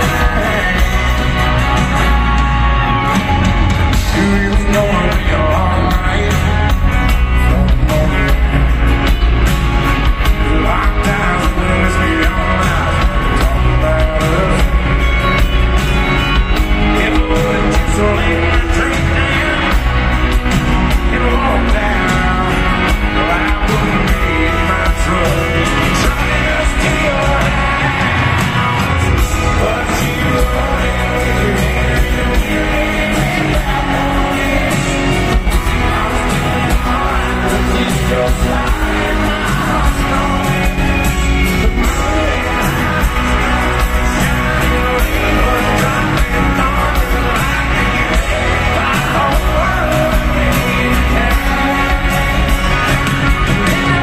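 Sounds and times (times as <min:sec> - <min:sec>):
acoustic guitar: 0:00.0 - 0:54.0
crowd singing and shouting: 0:00.0 - 0:54.0
live country band playing: 0:00.0 - 0:54.0
man singing: 0:00.0 - 0:54.0.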